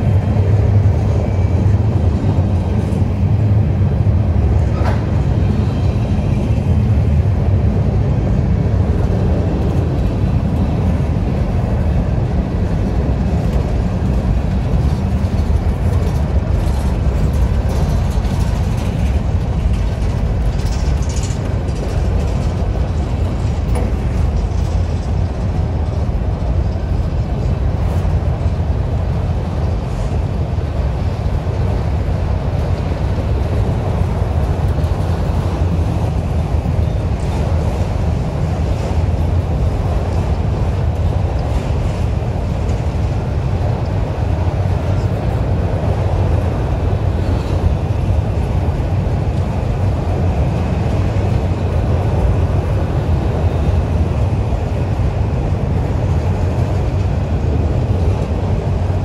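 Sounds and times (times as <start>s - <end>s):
diesel train rumbling: 0.0s - 59.0s.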